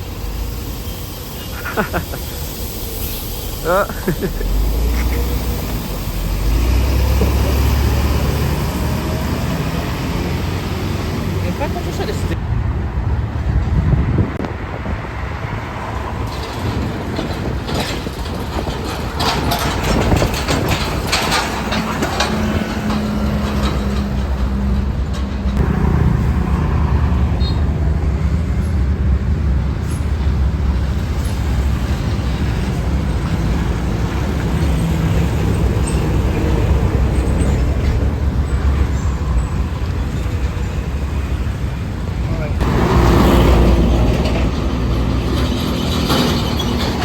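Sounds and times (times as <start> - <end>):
heavy vehicle engine running: 0.0 - 12.8, 16.0 - 47.0
road traffic passing: 0.0 - 47.0.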